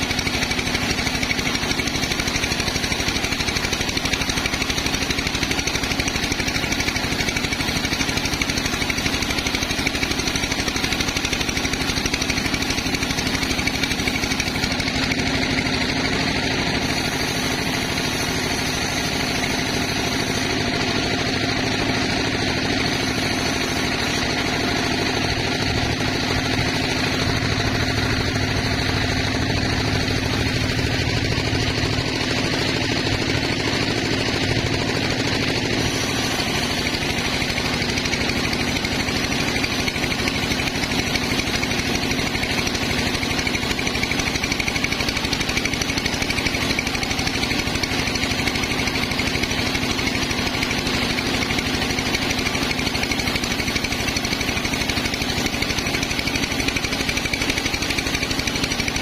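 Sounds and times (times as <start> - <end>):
engine rapid even beat: 0.0 - 59.0
sawmill machinery running: 0.0 - 59.0.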